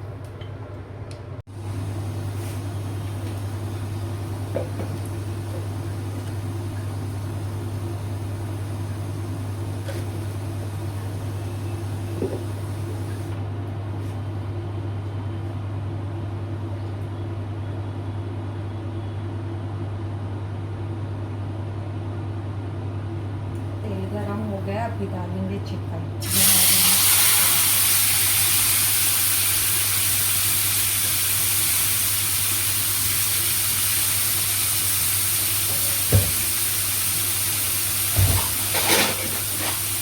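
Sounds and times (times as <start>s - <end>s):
low electrical motor hum: 0.0s - 40.0s.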